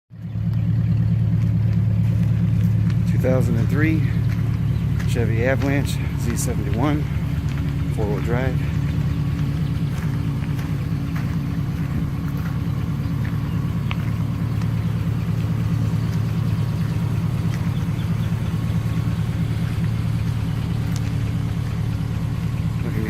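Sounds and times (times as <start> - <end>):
vehicle engine idling: 0.1 - 23.0.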